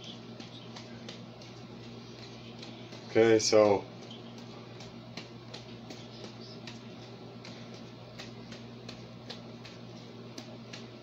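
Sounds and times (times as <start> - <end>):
fists tapping punching ball: 0.0 - 11.0
steady low hum: 0.0 - 11.0.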